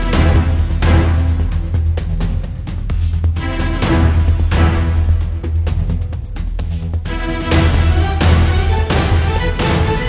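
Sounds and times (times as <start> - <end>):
music with beat and heavy bass: 0.0 - 10.0.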